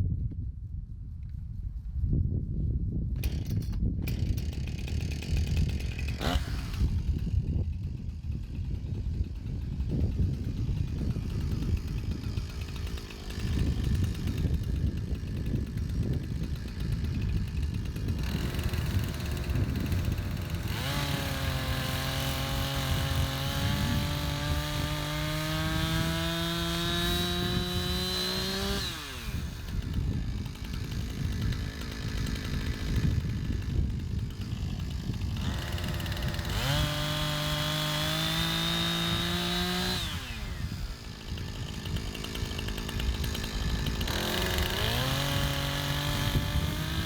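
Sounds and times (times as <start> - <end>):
chainsaw at full throttle: 3.2 - 47.0.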